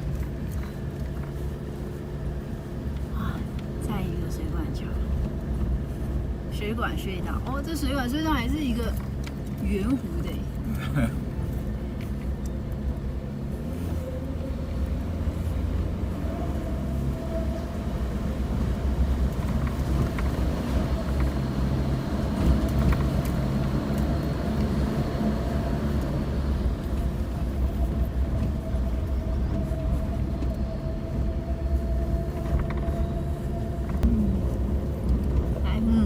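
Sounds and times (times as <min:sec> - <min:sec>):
vehicle engine and road rumble: 0:00.0 - 0:36.0.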